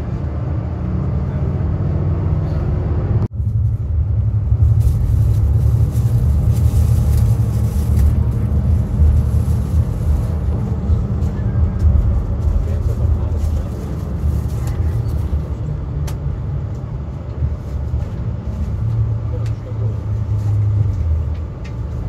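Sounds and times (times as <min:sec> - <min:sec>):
bus engine and tyre rumble: 0:00.0 - 0:22.0.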